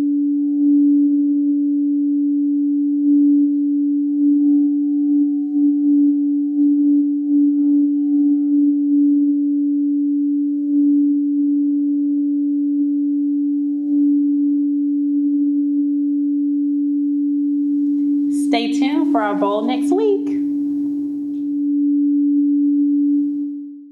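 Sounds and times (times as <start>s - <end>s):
singing bowl tone: 0.0s - 23.9s.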